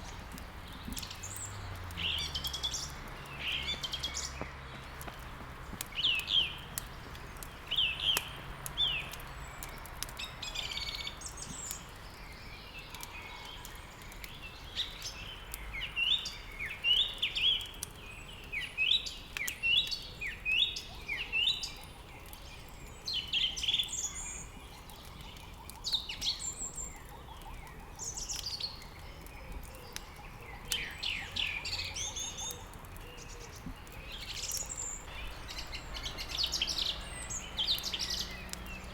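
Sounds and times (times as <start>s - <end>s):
songbirds chirping and singing: 0.0s - 38.9s
wood crackling in fireplace: 0.0s - 38.9s.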